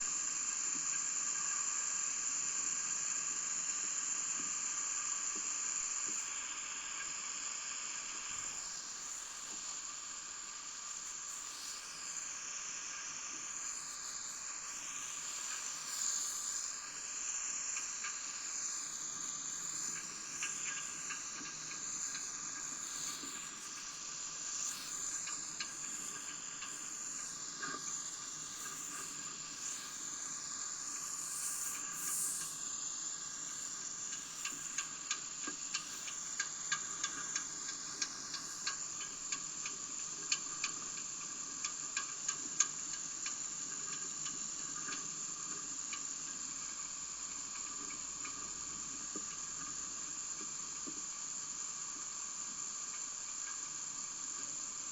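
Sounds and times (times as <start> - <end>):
faint steady whines: 0.0 - 54.9
steady hiss: 0.0 - 54.9.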